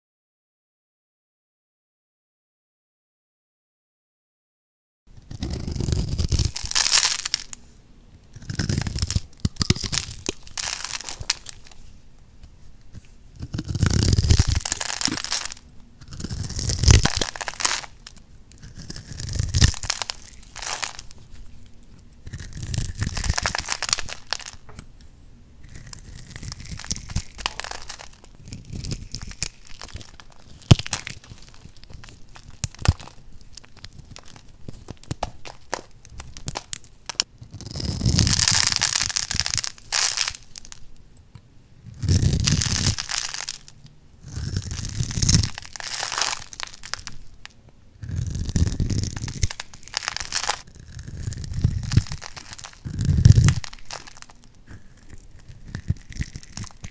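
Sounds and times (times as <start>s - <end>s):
blade shaving soap crunching: 5.2s - 7.6s, 8.3s - 11.8s, 12.4s - 24.8s, 25.6s - 40.9s, 41.9s - 56.9s
soap flakes crumbling crackle: 5.3s - 7.6s, 8.3s - 24.9s, 25.6s - 41.0s, 41.8s - 56.9s.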